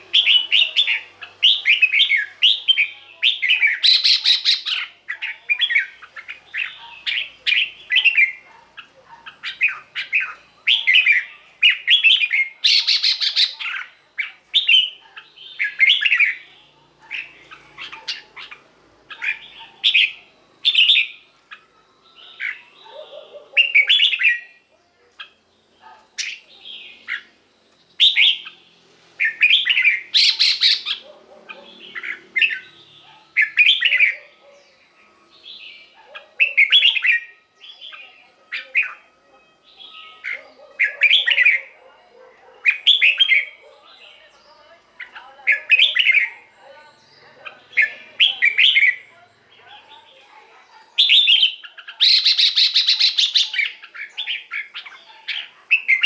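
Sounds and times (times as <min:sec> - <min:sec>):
bulbul singing whistled phrases: 0:00.0 - 0:28.6, 0:29.2 - 0:31.1, 0:31.7 - 0:41.8, 0:42.7 - 0:50.0, 0:50.8 - 0:56.0.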